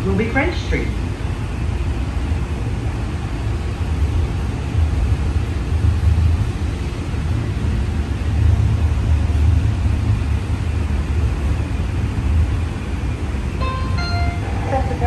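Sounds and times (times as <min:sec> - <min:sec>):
streetcar rumbling on track: 0:00.0 - 0:15.0.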